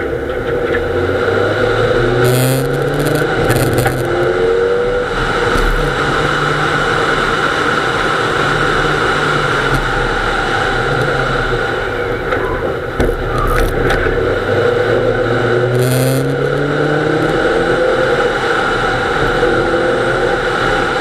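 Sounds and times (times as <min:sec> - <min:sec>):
car engine at high revs: 0:00.0 - 0:21.0
tyre and wind noise: 0:00.0 - 0:21.0.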